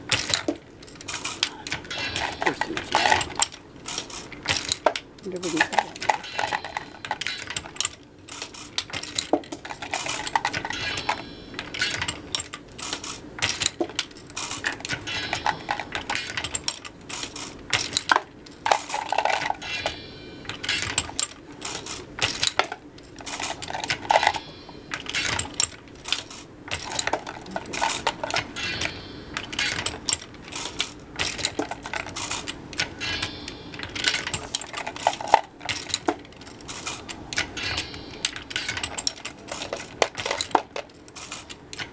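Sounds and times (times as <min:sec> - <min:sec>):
metallic clicks of reloading press: 0:00.0 - 0:41.9.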